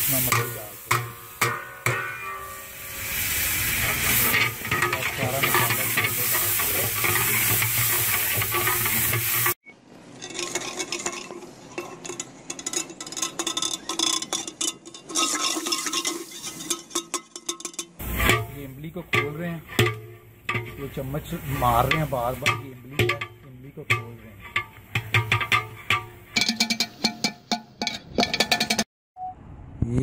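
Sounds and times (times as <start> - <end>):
food sizzling and bubbling: 0.0 - 27.3
ladle scraping metal pot: 0.0 - 28.8.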